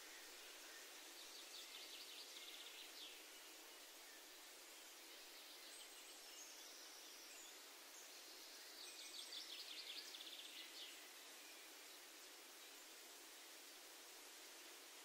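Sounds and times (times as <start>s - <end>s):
songbird trill: 0.0s - 12.8s.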